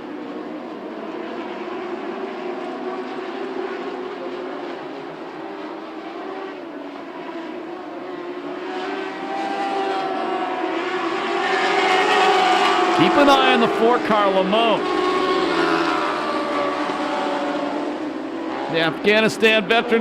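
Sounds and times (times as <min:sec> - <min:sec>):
race car engines at high revs: 0:00.0 - 0:20.0.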